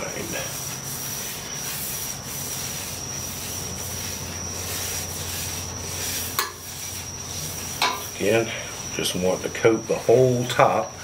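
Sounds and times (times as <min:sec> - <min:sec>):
paper towel rubbing on griddle: 0:00.0 - 0:11.0
steady low hum: 0:00.0 - 0:11.0
thin high whine: 0:00.0 - 0:11.0.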